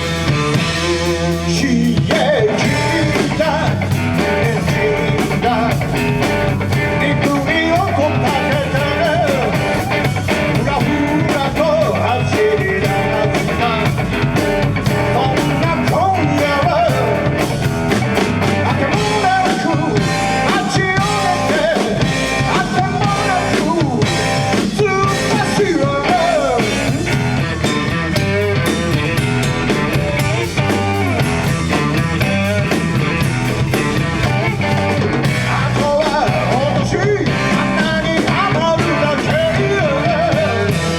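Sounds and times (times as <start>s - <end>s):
bass guitar: 0.0s - 40.9s
drum kit: 0.0s - 40.9s
guitar: 0.0s - 40.9s.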